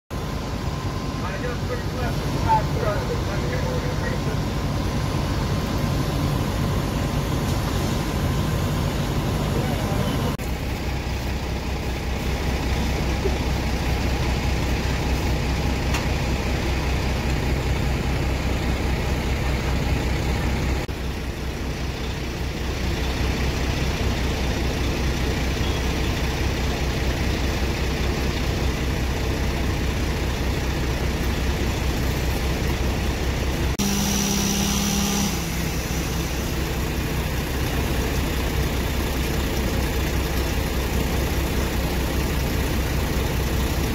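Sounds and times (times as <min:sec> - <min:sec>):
diesel engine idling: 0:00.1 - 0:43.9.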